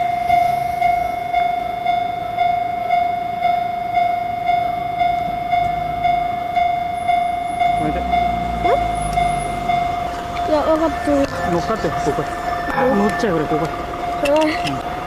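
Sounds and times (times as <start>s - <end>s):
railroad crossing bell dinging: 0.0s - 15.0s.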